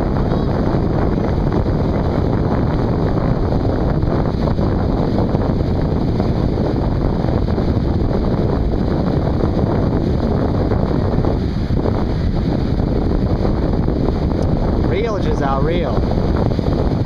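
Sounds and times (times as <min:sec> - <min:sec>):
breaking surf: 0:00.0 - 0:17.0
strong wind buffeting microphone: 0:00.0 - 0:17.0.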